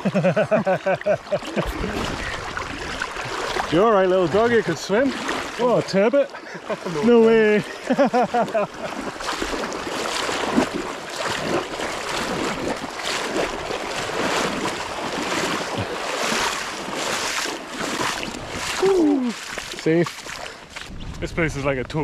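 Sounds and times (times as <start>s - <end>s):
water splashing around wading legs: 0.0s - 21.3s.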